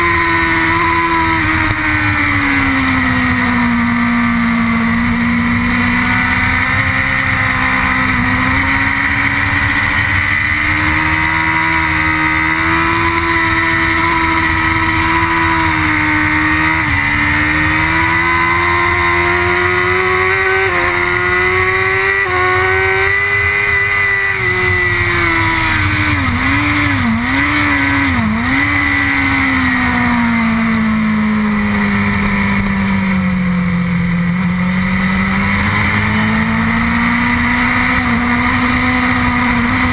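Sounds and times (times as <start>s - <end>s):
motorcycle engine at racing revs: 0.0s - 39.9s.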